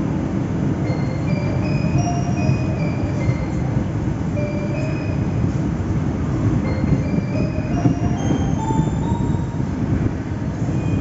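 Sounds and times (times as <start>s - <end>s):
diesel locomotive idling rumble: 0.0s - 11.0s.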